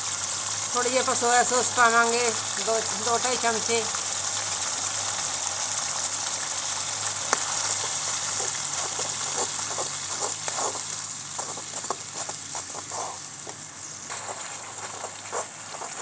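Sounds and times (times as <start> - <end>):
sauce pouring: 0.0 - 16.0
spices sizzling in hot oil: 0.0 - 16.0.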